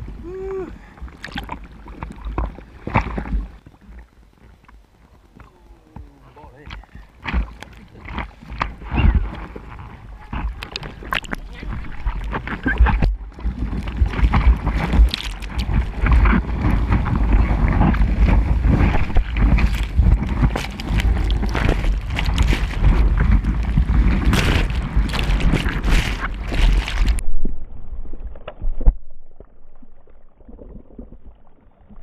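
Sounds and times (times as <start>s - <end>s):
deep rumble of water: 0.0s - 32.0s
seawater splashing: 0.8s - 32.0s.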